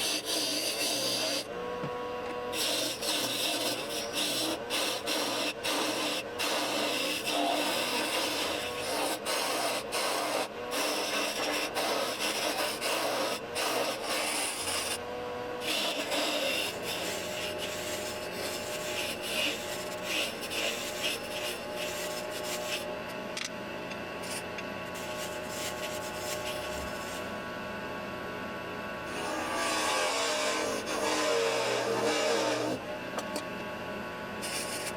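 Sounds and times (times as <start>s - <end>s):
wood lathe turning tool scraping: 0.0s - 15.0s, 15.6s - 22.9s, 24.2s - 27.3s, 29.1s - 32.9s, 34.4s - 34.9s.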